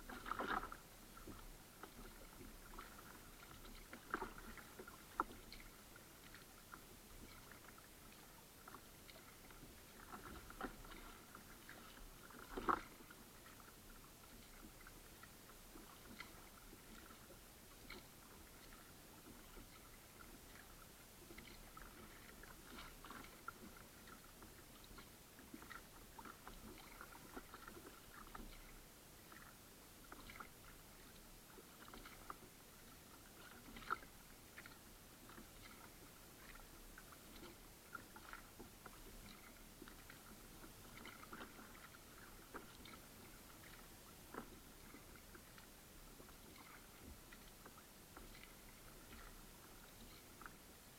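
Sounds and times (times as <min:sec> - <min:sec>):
paddle splashing water: 0:00.0 - 0:50.9.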